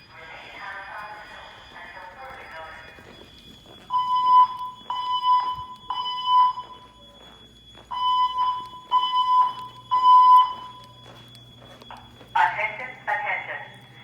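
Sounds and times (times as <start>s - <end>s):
fire alarm beeps: 0.0s - 14.0s.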